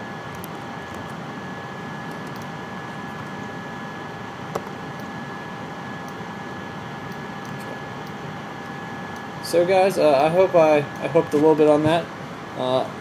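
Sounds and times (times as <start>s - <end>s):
faint constant whine: 0.0s - 13.0s.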